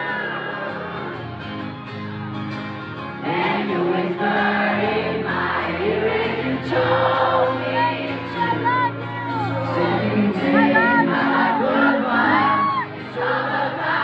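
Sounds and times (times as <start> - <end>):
crowd singing along: 0.0 - 1.8, 2.9 - 14.0
strummed acoustic guitar: 0.0 - 14.0.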